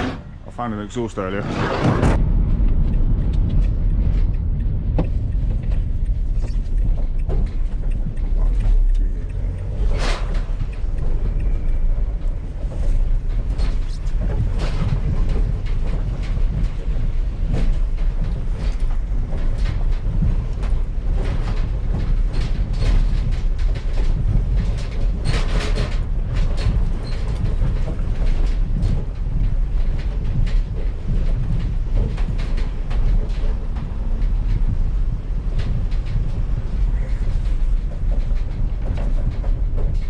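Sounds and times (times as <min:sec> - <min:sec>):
rattles and knocks: 0:00.0 - 0:40.0
road and engine rumble: 0:00.0 - 0:40.0.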